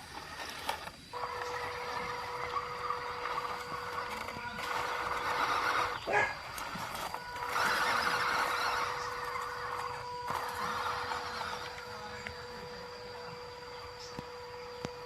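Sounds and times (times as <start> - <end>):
rc truck motor whining: 0.0 - 15.0.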